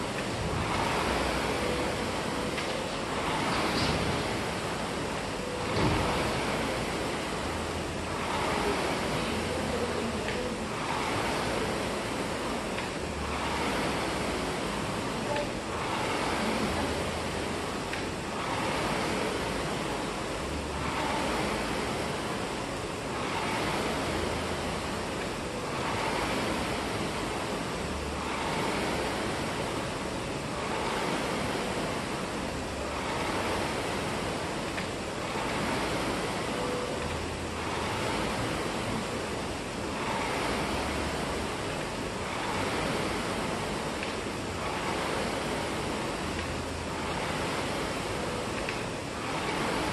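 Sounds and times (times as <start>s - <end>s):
rowing machine fan whooshing: 0.0s - 49.9s.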